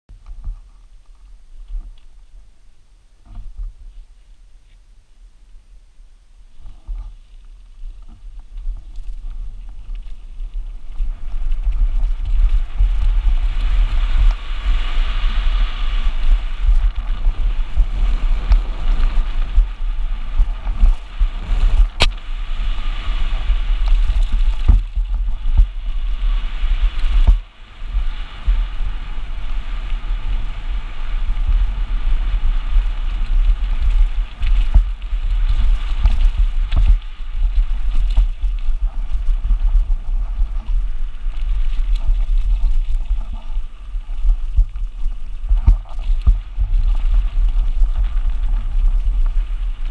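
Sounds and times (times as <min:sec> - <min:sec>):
wind noise on microphone: 0:00.1 - 0:49.9
bike knocking over rough ground: 0:06.6 - 0:49.9.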